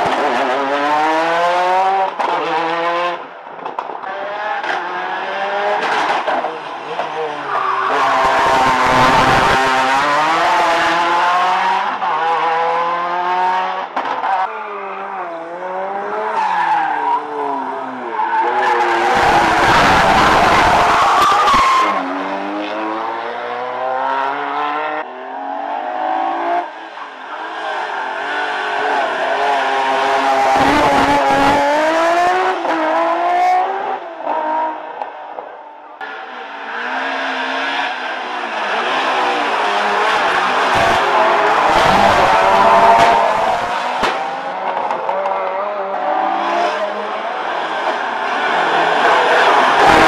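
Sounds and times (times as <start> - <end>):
race car engines revving: 0.0 - 50.0.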